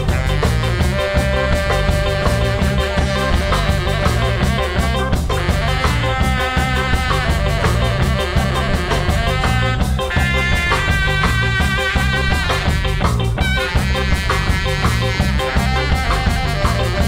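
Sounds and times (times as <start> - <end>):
bass: 0.0 - 17.0
drums: 0.0 - 17.0
electric guitar: 0.0 - 17.0
saxophone melody: 0.0 - 17.0.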